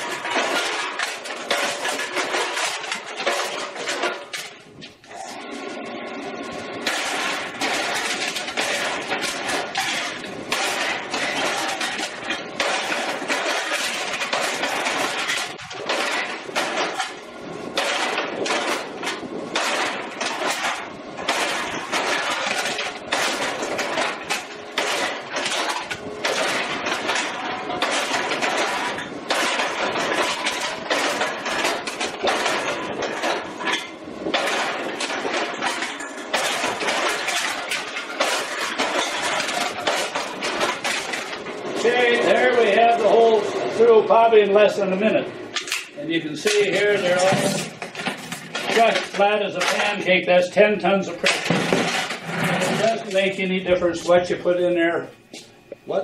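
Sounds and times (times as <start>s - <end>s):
metallic clatter of cans crushed: 0.0s - 5.4s, 6.8s - 54.5s.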